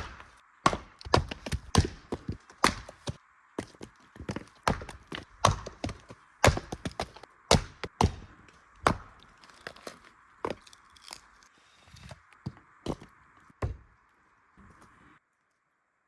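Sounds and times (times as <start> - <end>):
firewood knocks and cracks: 0.0 - 14.0.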